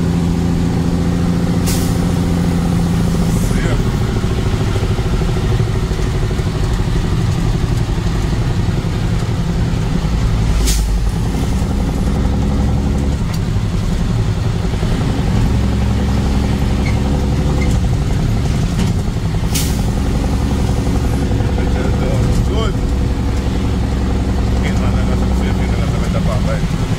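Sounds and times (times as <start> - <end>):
road noise: 0.0 - 26.9
vehicle engine drone: 0.0 - 26.9.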